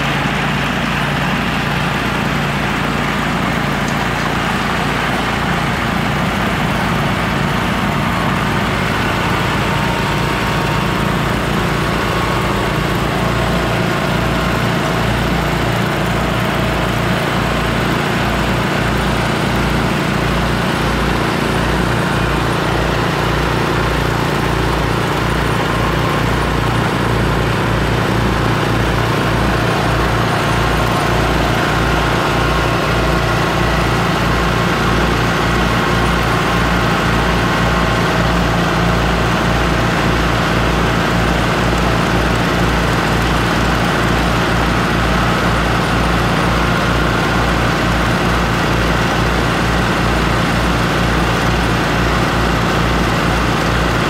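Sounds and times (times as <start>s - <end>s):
gas engine running: 0.0s - 54.0s
tractor engine running: 0.0s - 54.0s.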